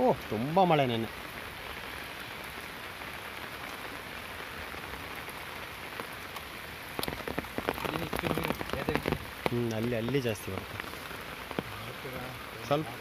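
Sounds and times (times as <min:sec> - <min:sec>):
close raindrop hits: 0:00.0 - 0:13.0
heavy rain falling: 0:00.0 - 0:13.0.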